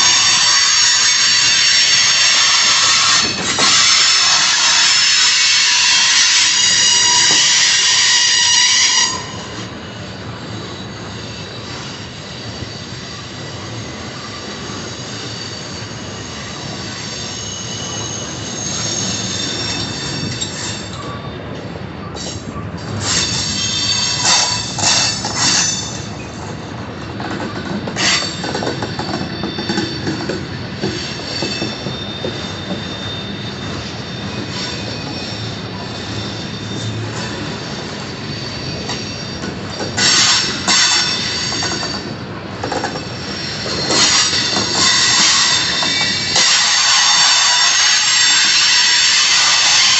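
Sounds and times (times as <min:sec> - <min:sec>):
train rolling rumble: 0:00.0 - 0:49.9
wheels squealing on rails: 0:00.0 - 0:49.9.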